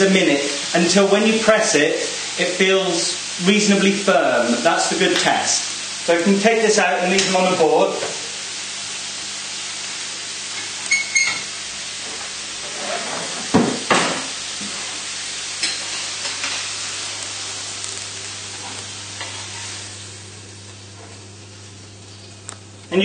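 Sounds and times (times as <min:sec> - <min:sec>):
steaks sizzling in frying pan: 0:00.0 - 0:22.8.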